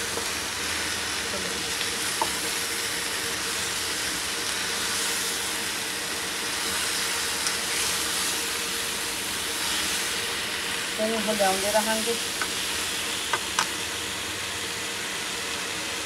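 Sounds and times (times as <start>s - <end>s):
pumpkin sizzling in oil: 0.0s - 16.0s.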